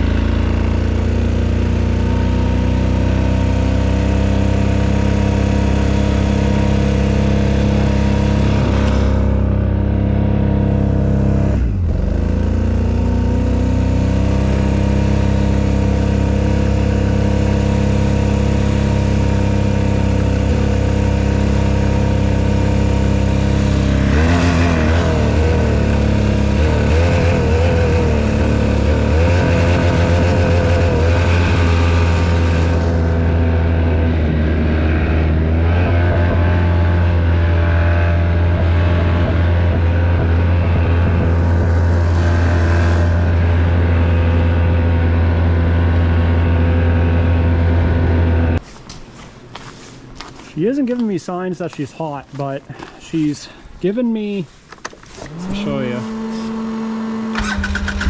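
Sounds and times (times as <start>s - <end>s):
atv engine running hard: 0.0s - 48.6s, 55.2s - 58.0s.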